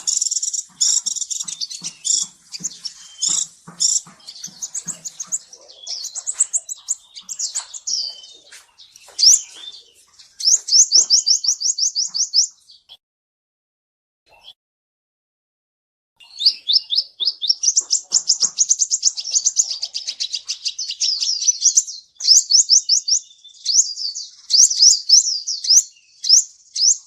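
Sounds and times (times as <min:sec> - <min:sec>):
bird chirping and trilling: 0:00.0 - 0:13.0, 0:16.2 - 0:27.0.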